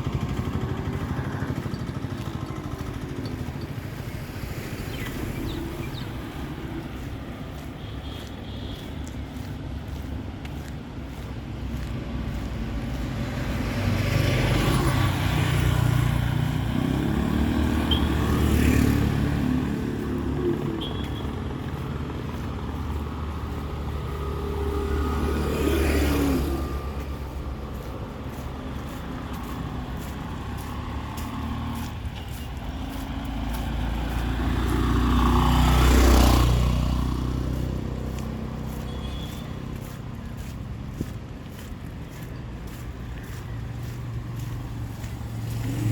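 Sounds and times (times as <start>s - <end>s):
motor vehicles passing: 0.0s - 45.9s.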